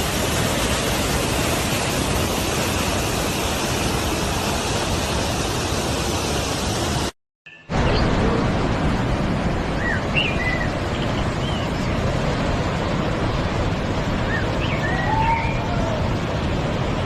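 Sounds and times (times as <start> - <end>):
waterfall roaring: 0.0 - 7.1, 7.7 - 17.0.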